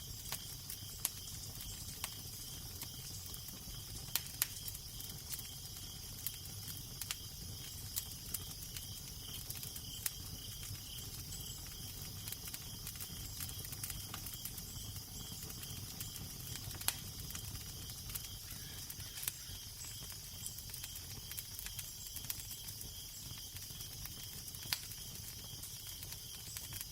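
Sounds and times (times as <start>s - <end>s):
crackling fire with pops: 0.0s - 26.9s.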